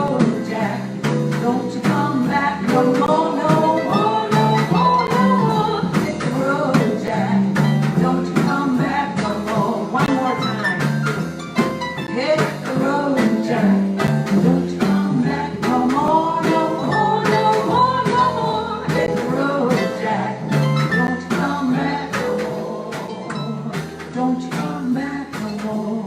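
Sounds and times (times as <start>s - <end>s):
harp-led jazz band playing: 0.0s - 25.6s.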